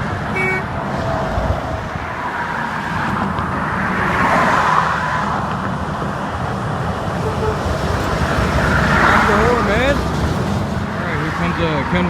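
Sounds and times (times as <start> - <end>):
highway traffic passing: 0.0 - 12.0.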